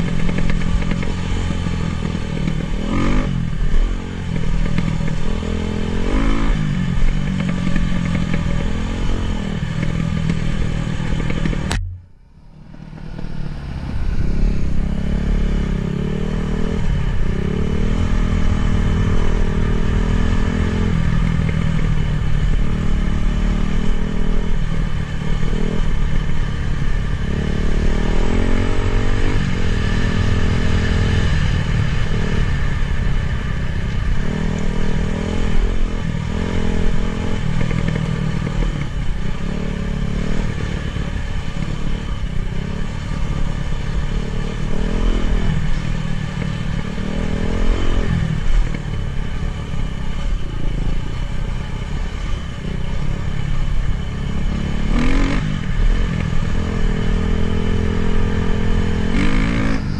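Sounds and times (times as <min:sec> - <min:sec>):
dirt bike engine revving: 0:00.0 - 0:12.0, 0:12.9 - 0:49.0, 0:52.2 - 0:59.9.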